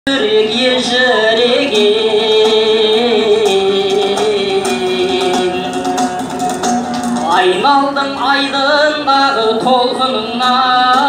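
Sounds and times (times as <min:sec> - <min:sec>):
person singing: 0:00.1 - 0:06.2, 0:07.2 - 0:11.0
instrumental accompaniment: 0:00.1 - 0:11.0.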